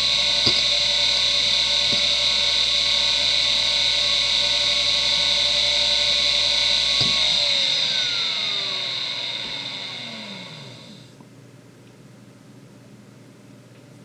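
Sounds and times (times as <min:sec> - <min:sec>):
hard drive whine: 0:00.0 - 0:11.4.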